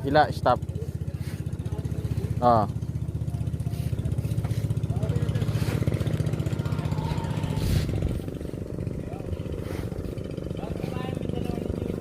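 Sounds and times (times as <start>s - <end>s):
faint voices: 0.0s - 12.0s
small engine running: 0.0s - 12.0s.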